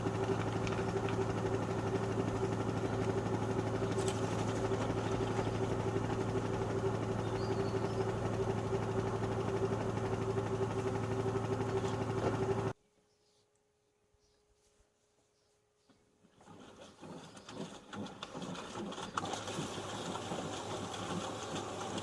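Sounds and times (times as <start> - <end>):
washing machine motor whine: 0.0 - 12.8, 16.4 - 22.0.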